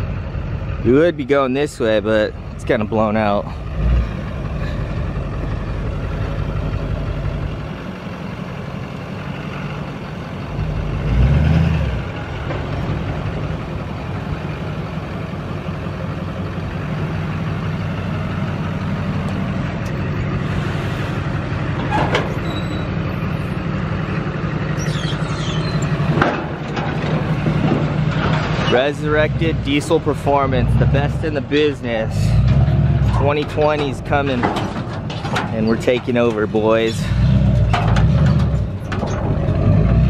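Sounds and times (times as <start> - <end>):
diesel pickup engine running: 0.0 - 40.0.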